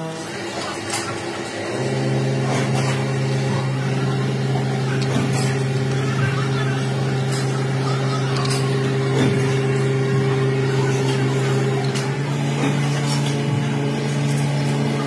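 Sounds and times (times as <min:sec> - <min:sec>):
machine motor humming: 0:00.0 - 0:15.0.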